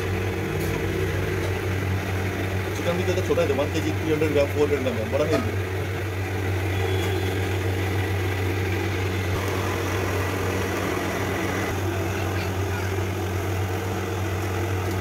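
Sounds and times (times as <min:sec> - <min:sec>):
low mechanical motor hum: 0:00.0 - 0:15.0.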